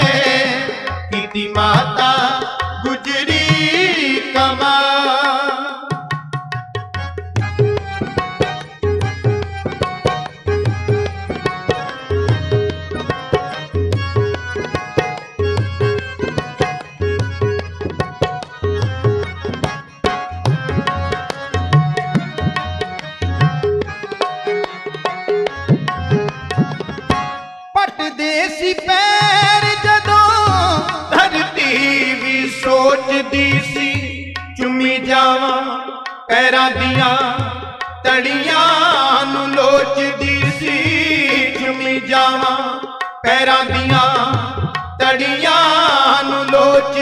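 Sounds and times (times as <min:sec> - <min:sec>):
harmonium melody: 0:00.0 - 0:47.0
tabla: 0:00.0 - 0:47.0.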